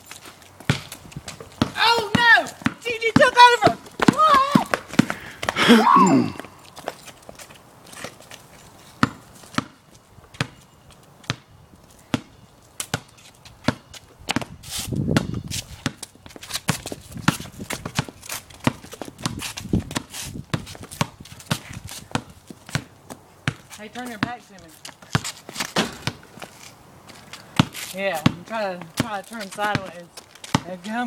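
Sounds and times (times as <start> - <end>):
basketball bouncing on concrete: 0.2 - 7.4, 9.0 - 11.5, 12.1 - 26.5, 27.5 - 31.0.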